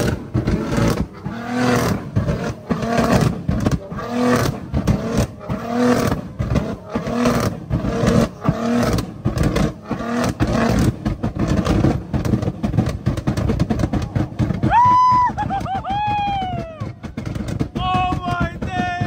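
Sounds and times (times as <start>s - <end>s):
exhaust banging and crackling: 0.0s - 19.0s.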